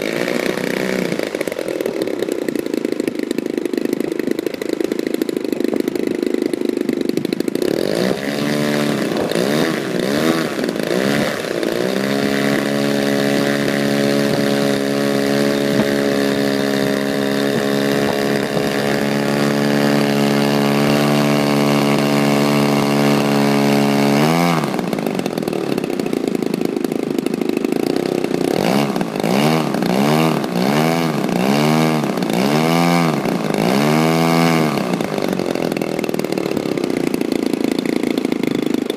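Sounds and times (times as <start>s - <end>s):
model plane engine revving: 0.0s - 38.9s.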